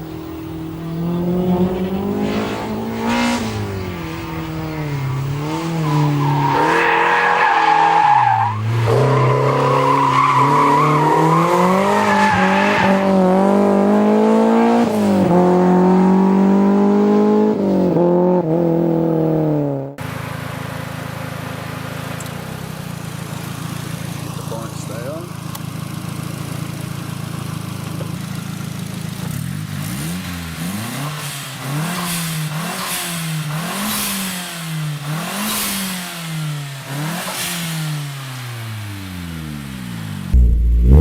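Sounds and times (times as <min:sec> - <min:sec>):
car engine accelerating hard: 0:00.0 - 0:41.0.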